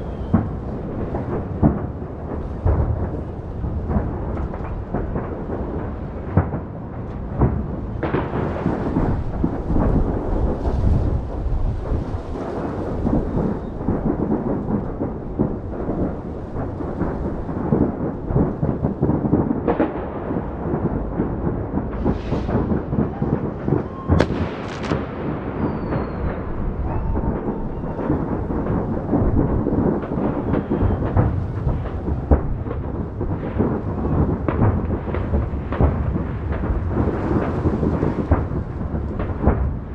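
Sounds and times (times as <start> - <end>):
fireworks booming: 0.0 - 39.9
fireworks crackling bursts: 0.0 - 39.9
fireworks sharp cracks: 0.0 - 39.9.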